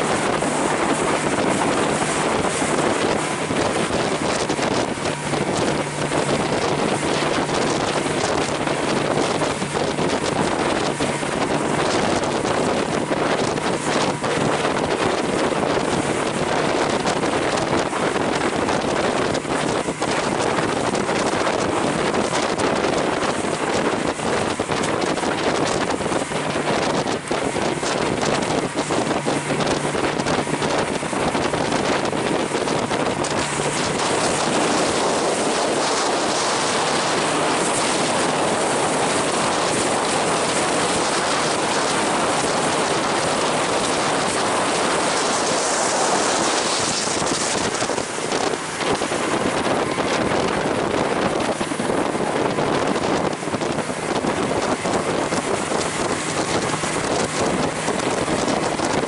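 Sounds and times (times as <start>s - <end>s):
water spraying against hull: 0.0s - 59.0s
wind rushing on microphone: 0.0s - 59.0s.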